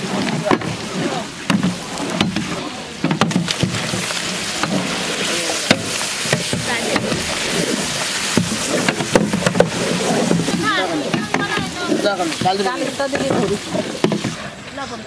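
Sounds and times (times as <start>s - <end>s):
frying hiss: 0.0s - 15.0s.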